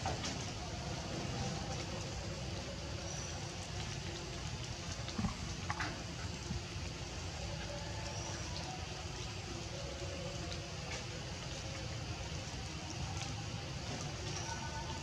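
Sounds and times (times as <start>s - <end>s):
steady water noise: 0.0s - 15.0s.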